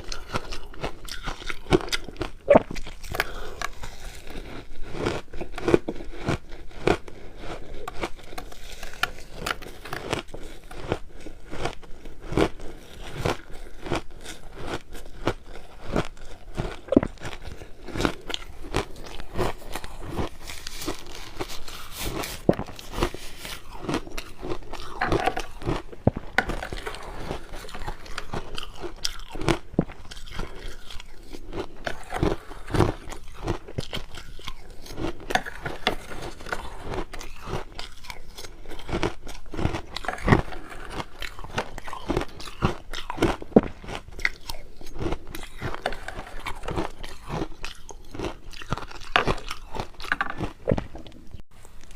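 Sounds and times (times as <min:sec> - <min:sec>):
crunching and chewing ice: 0:00.0 - 0:51.9.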